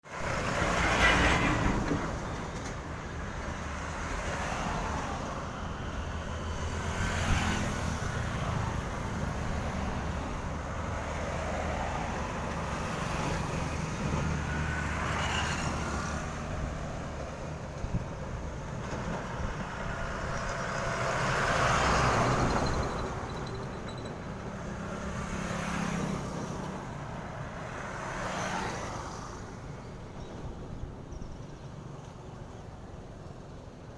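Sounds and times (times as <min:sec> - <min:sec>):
heavy trucks passing: 0:00.0 - 0:33.9.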